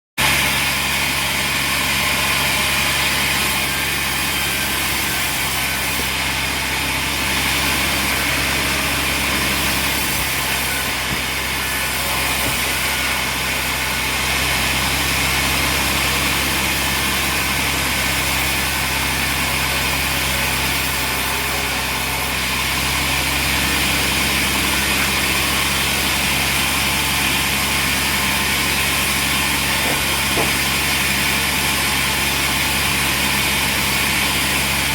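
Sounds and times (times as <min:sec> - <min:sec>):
sawmill machinery humming: 0:00.2 - 0:34.9.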